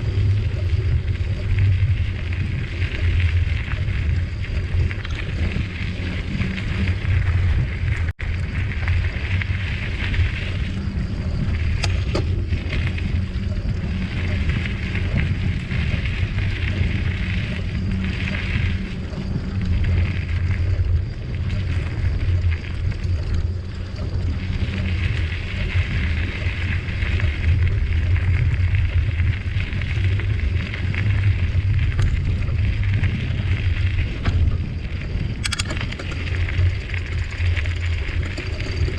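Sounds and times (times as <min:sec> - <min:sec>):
bicycle tyres hissing on trail: 0:00.0 - 0:35.4, 0:36.0 - 0:38.9
wind rumbling on microphone: 0:00.0 - 0:38.9.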